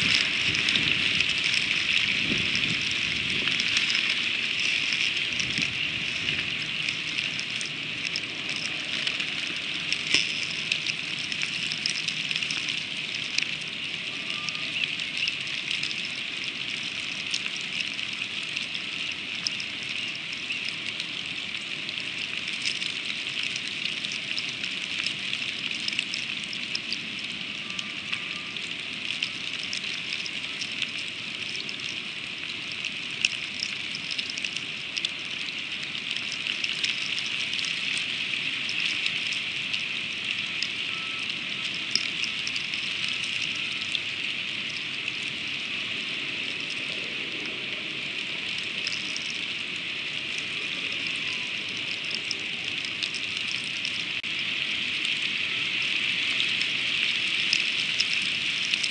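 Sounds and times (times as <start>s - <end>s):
freezing rain hissing: 0.0s - 58.9s.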